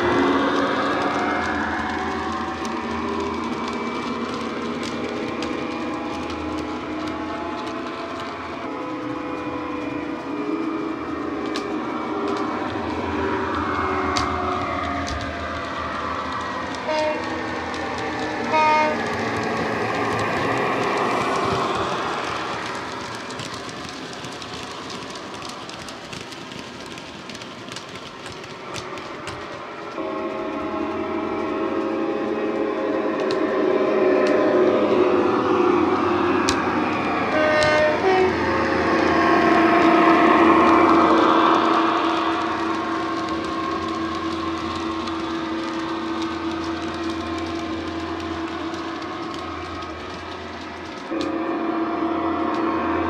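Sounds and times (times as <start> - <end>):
model train wheels clicking: 0.0 - 51.4
diesel locomotive engine drone: 0.0 - 53.0.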